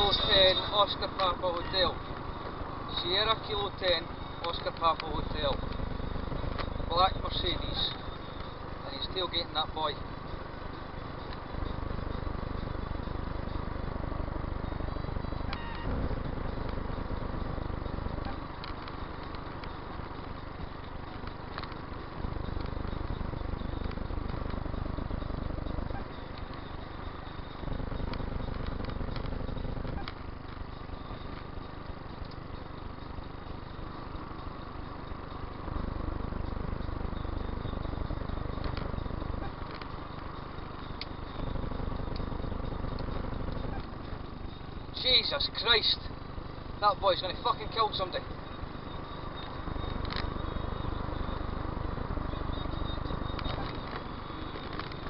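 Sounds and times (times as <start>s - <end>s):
car tyres and engine: 0.0s - 55.0s.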